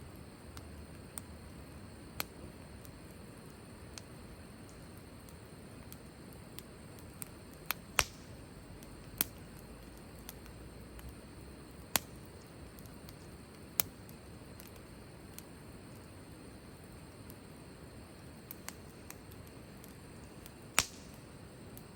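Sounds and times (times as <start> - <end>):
campfire hiss: 0.0 - 21.9
firewood popping and crackling: 0.5 - 16.1, 18.3 - 21.9.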